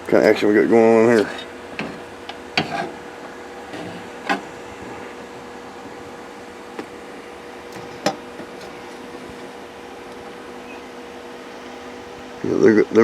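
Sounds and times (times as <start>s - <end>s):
mechanical hum with faint tone: 0.0s - 13.0s.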